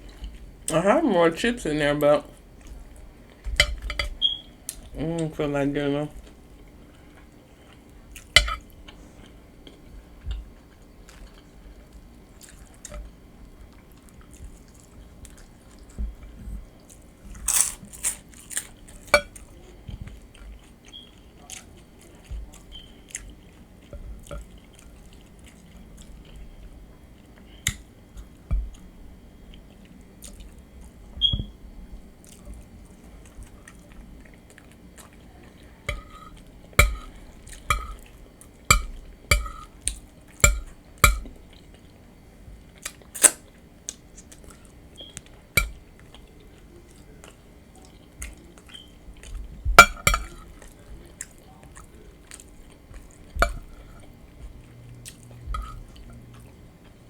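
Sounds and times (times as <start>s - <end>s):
crunching and chewing chips: 6.1s - 31.0s, 32.2s - 49.6s, 50.4s - 57.0s.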